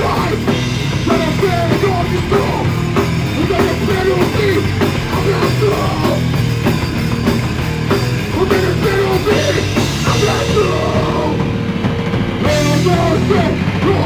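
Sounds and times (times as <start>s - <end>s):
drum kit: 0.0s - 14.0s
electric guitars: 0.0s - 14.0s
rock band playing loud and fast: 0.0s - 14.0s.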